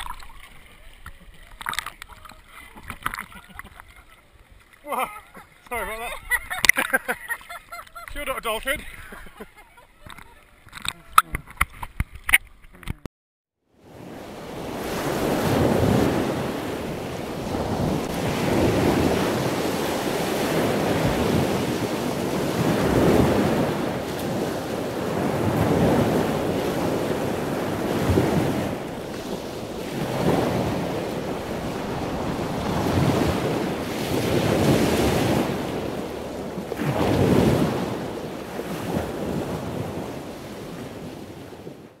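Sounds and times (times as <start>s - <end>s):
ocean waves surging: 0.0s - 7.4s, 13.8s - 42.0s.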